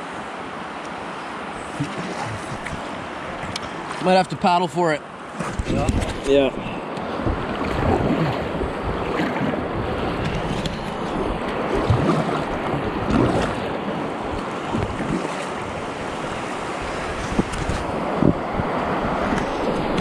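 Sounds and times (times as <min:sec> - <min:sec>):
river water splashing: 0:00.0 - 0:20.0
wind buffeting microphone: 0:01.6 - 0:03.9, 0:05.4 - 0:20.0.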